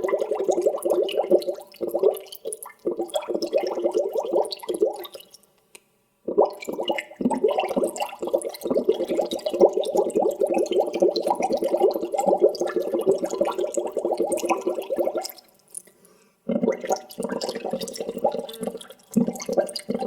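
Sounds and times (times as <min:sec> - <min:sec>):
water bubbling: 0:00.0 - 0:05.2, 0:06.3 - 0:15.5, 0:16.5 - 0:20.0.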